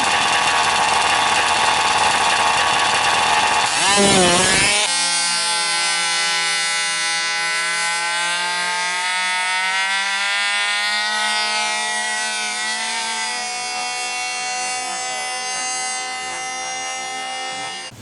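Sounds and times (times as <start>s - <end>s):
small engine high-pitched drone: 0.0s - 18.0s.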